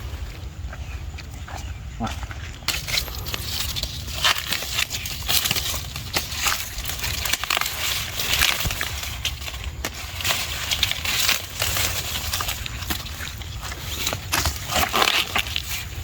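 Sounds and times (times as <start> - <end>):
dry plant material crackling: 0.0 - 16.0
low steady rumble: 0.0 - 16.0.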